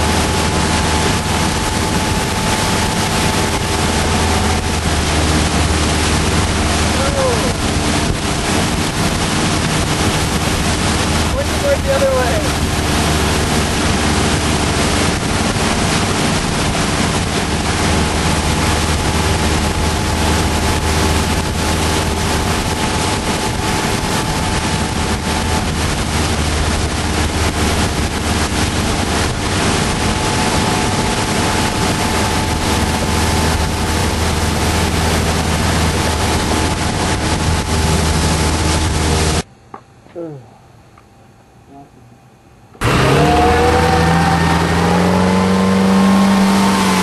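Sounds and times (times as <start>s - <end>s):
rush of boat wake: 0.0s - 39.5s, 42.8s - 47.0s
wind noise on microphone: 0.0s - 39.5s
motorboat engine humming: 0.0s - 47.0s.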